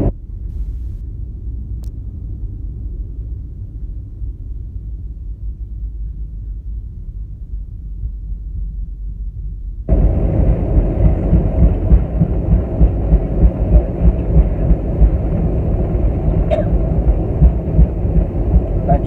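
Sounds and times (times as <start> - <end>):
muffled aircraft cabin rumble: 0.0 - 19.0.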